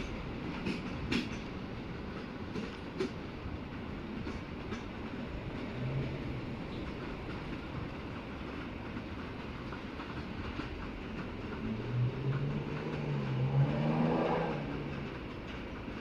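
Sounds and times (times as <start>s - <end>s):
train wheels clicking and rumbling: 0.0s - 16.0s.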